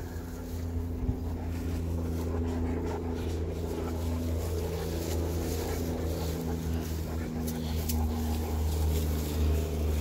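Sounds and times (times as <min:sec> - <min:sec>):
motor humming: 0:00.0 - 0:10.0.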